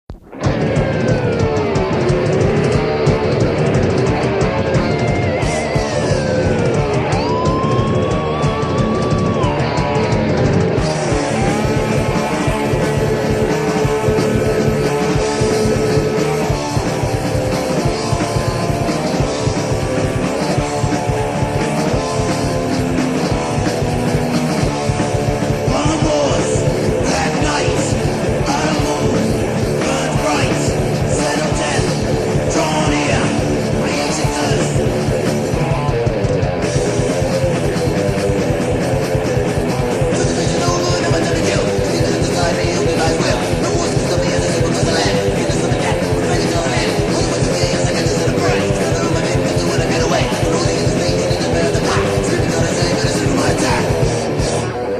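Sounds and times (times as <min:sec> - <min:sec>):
bass: 0:00.0 - 0:54.9
drums: 0:00.0 - 0:54.9
heavy metal song: 0:00.1 - 0:54.9
electric guitar riffing: 0:00.2 - 0:54.9.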